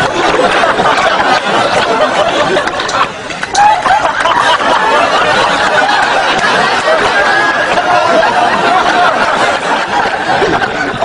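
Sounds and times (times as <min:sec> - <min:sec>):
murmur of many voices: 0:00.0 - 0:11.0
people laughing: 0:00.0 - 0:11.0.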